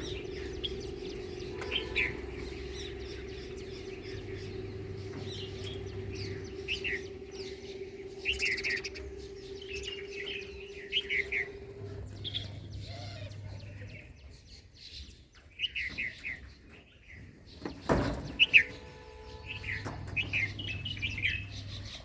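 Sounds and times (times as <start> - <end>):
faint low hum: 0.0 - 14.6, 18.0 - 22.0
small birds chirping: 0.0 - 22.0.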